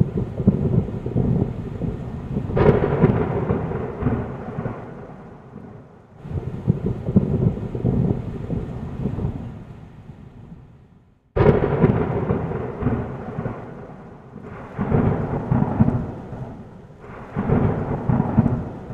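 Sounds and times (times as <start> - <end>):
sharp thunderclap: 0.0 - 9.7, 11.4 - 18.9
rain falling: 0.0 - 10.5, 11.4 - 18.9
thunder rumbling: 0.0 - 18.9.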